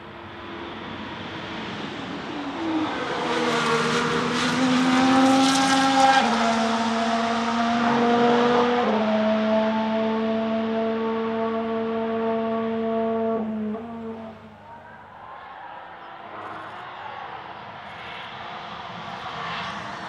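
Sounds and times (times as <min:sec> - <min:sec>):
racing car passing at full throttle: 0:00.0 - 0:20.0.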